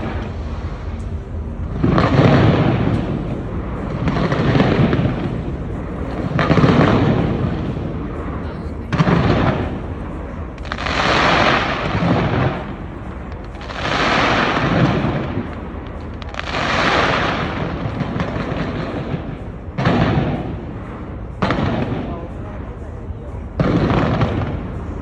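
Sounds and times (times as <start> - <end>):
fireworks bursts: 0.0 - 25.0
fireworks crackling: 0.0 - 25.0.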